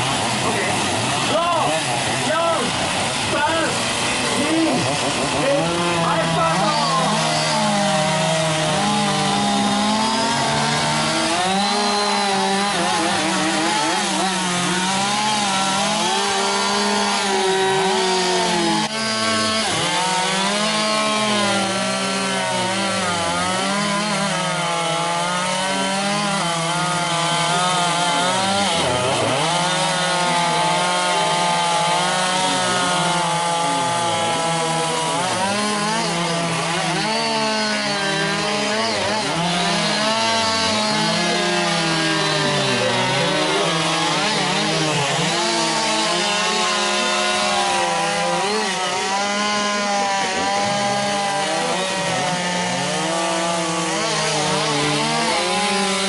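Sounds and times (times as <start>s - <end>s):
chainsaws cutting wood: 0.0s - 56.0s.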